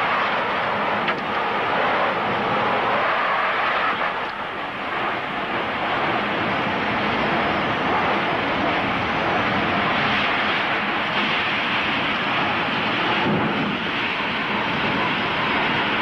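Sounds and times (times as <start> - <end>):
driving rain: 0.0 - 16.0
wind buffeting microphone: 0.0 - 16.0.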